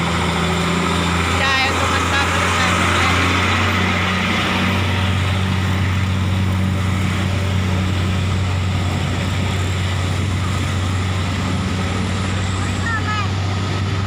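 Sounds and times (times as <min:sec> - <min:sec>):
heavy vehicle engine droning: 0:00.0 - 0:14.0.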